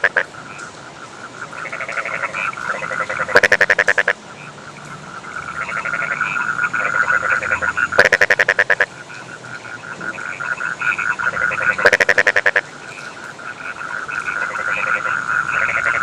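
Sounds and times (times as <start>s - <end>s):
chorus of frogs croaking: 0.0s - 16.0s
frog rattling call: 0.0s - 16.0s.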